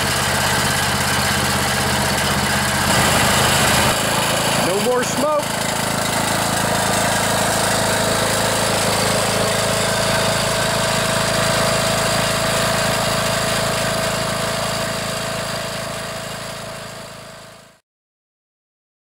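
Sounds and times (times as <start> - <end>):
lawn mower engine running: 0.0 - 17.8.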